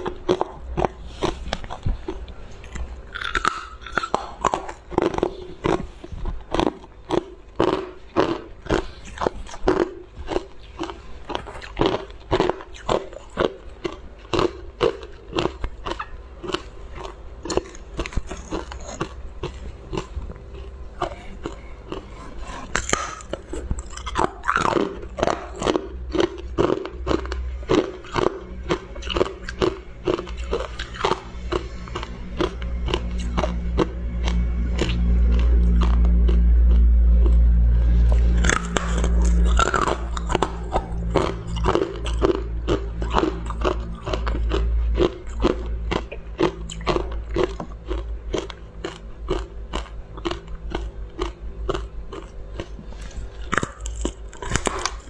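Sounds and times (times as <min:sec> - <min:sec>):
crunching and chewing ice: 0:00.0 - 0:55.0
low hum: 0:00.0 - 0:55.0.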